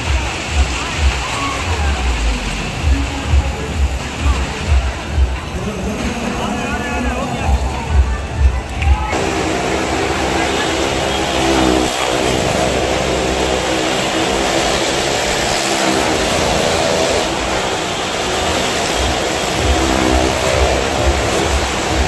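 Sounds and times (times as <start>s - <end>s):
motorcycle engines droning: 0.0s - 22.0s.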